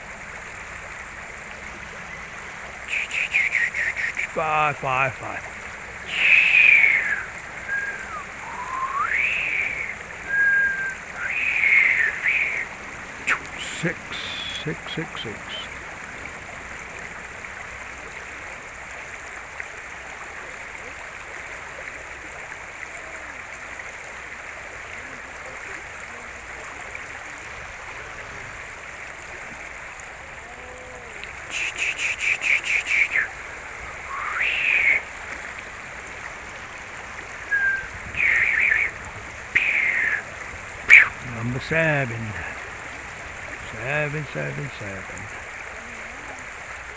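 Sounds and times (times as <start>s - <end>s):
river water running: 0.0s - 46.9s.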